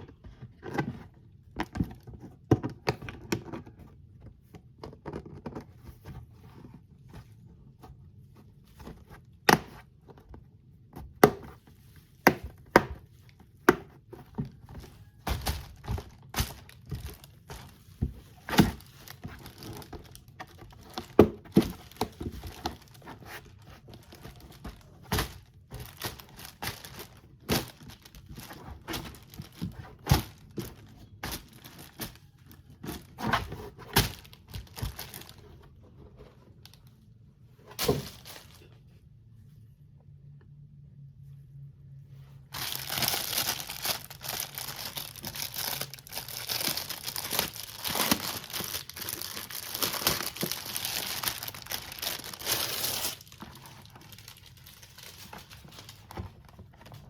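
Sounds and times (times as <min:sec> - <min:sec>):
rustling and crinkling: 0:00.0 - 0:57.0.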